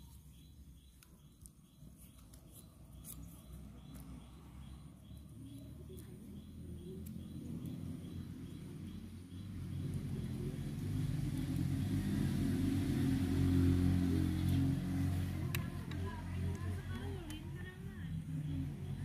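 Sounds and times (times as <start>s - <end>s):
vehicle engine approaching: 3.2s - 19.0s.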